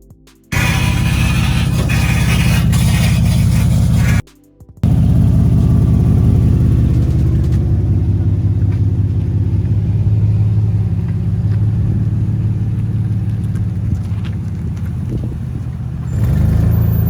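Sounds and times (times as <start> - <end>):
car engine idling: 0.5 - 4.2, 4.8 - 17.0.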